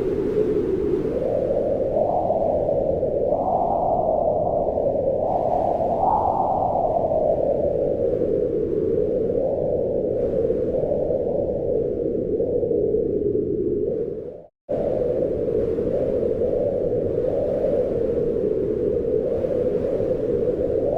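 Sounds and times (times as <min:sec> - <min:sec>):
wind rushing in gusts: 0:00.0 - 0:20.9.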